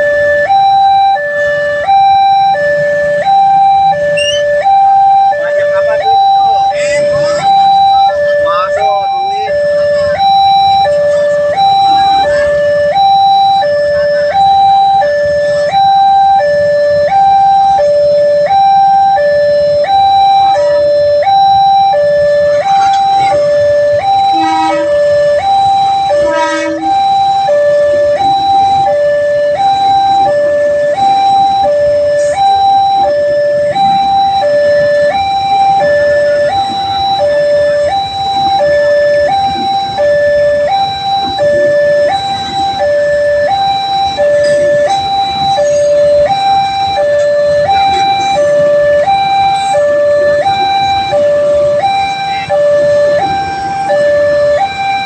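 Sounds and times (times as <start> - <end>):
level crossing two-tone alarm: 0.0 - 55.0.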